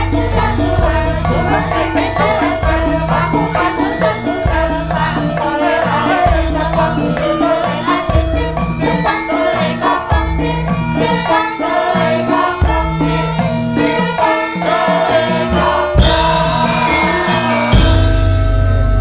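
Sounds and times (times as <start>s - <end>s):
metallophone notes: 0.0s - 19.0s.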